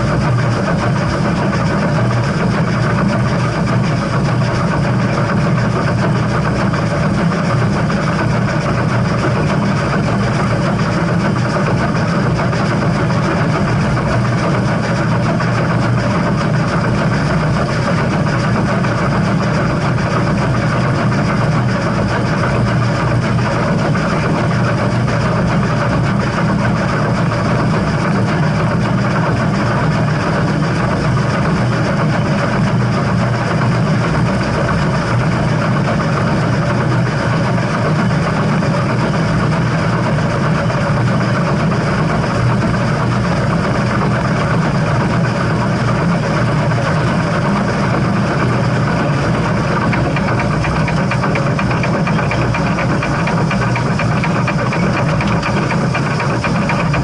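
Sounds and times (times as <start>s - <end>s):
steam train rumbling: 0.0s - 57.0s.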